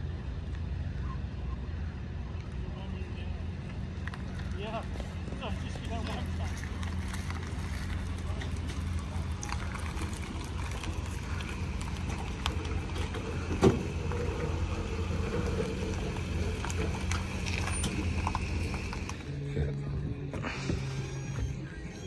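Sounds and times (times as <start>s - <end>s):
truck engine running at low revs: 0.0s - 22.0s.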